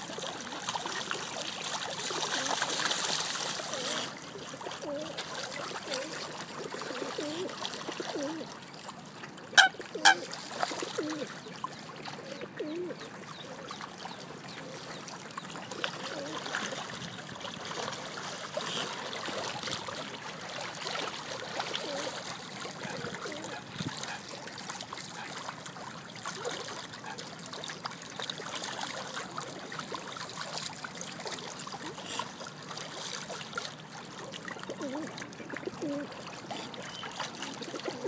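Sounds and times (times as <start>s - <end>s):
water splashing and lapping: 0.0s - 38.0s.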